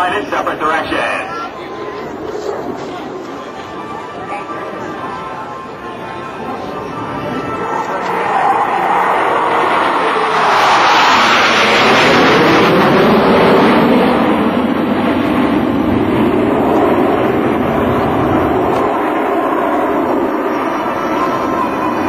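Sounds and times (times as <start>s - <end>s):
jet engines roaring overhead: 0.0s - 22.0s.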